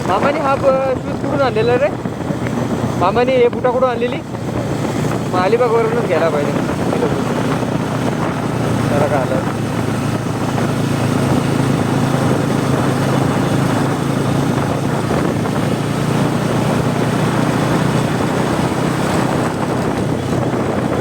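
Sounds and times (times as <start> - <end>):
motorcycle engine cruising: 0.0 - 21.0.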